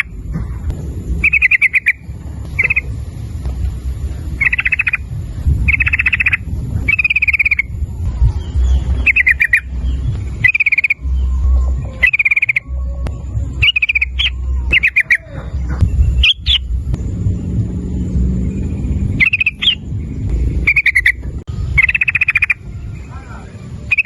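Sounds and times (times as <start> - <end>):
bulbul chattering song: 0.0 - 24.0
steady low rumble: 0.0 - 24.0.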